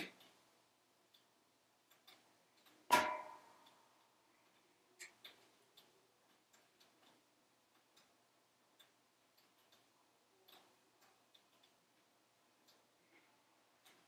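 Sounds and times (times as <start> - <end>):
logs crackling in wood stove: 0.0 - 14.0
soft background hiss: 0.0 - 14.0.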